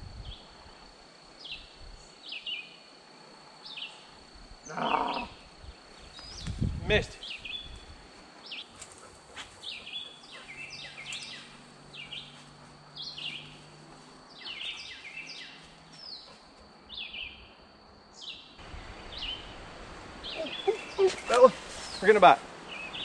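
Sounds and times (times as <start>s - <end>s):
songbirds chirping: 0.2s - 23.0s.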